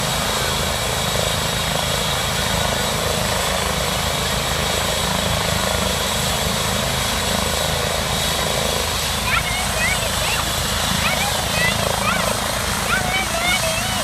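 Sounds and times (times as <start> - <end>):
helicopter rotor beat: 0.0 - 14.0
helicopter turbine whine: 0.0 - 14.0.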